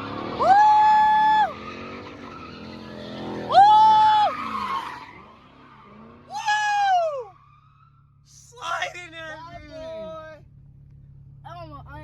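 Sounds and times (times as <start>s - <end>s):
car tyres squealing: 0.0s - 10.4s
car engine noise: 0.0s - 12.0s.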